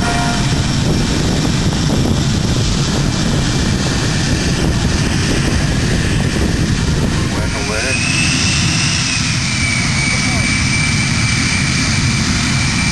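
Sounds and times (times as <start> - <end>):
aircraft flying past: 0.0 - 12.9.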